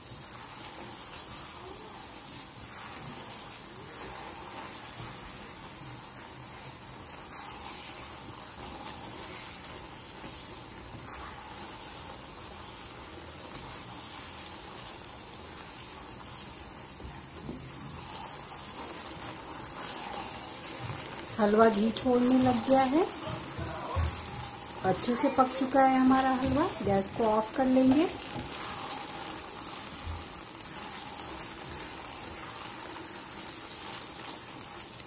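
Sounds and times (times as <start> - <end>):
food sizzling and bubbling: 0.0 - 35.0.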